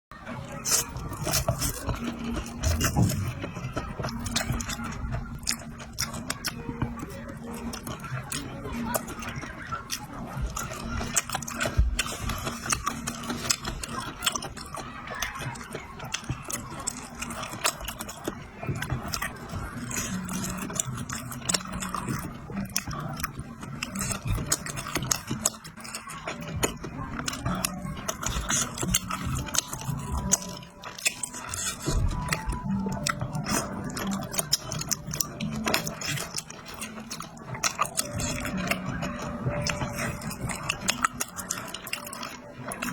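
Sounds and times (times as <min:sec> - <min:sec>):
biting and chewing crunches: 0:00.2 - 0:42.9
light background music: 0:00.2 - 0:42.9.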